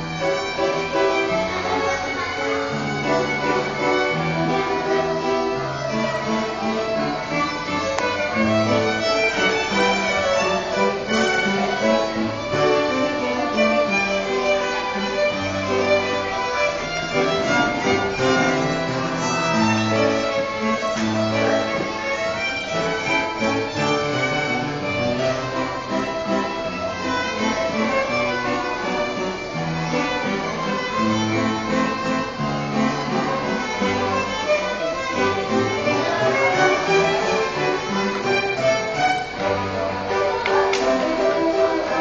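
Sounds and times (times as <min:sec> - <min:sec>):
lower accompaniment: 0:00.0 - 0:42.0
violin melody of held notes: 0:00.0 - 0:42.0.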